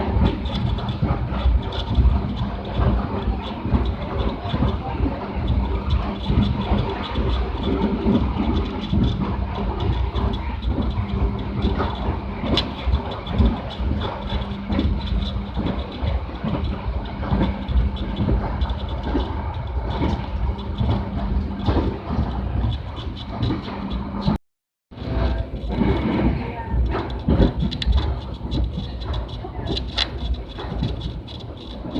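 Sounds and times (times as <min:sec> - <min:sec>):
train knocks and clicks: 0:00.0 - 0:24.4, 0:25.0 - 0:31.9
train rumble and hum: 0:00.0 - 0:31.9.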